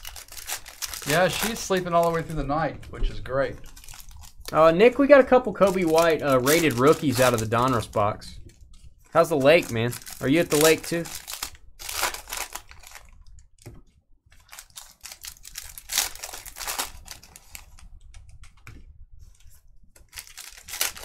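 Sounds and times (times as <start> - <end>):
trading cards rustling: 0.0 - 13.8, 14.4 - 18.7, 19.3 - 21.0.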